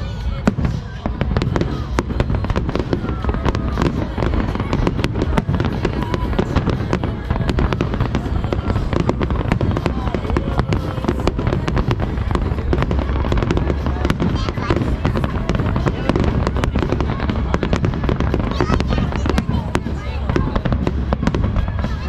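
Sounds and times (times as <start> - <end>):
deep rumble: 0.0 - 22.0
fireworks cracks and bangs: 0.0 - 22.0.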